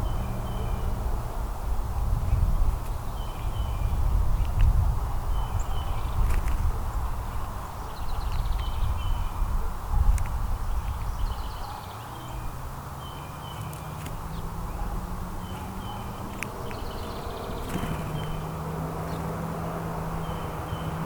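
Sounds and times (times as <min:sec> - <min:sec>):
small birds chirping: 0:00.0 - 0:21.0
vehicle engine hum: 0:00.0 - 0:21.0.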